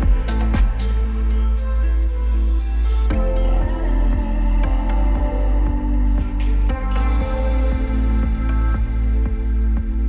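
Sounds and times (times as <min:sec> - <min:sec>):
pop song instrumental: 0:00.0 - 0:10.0.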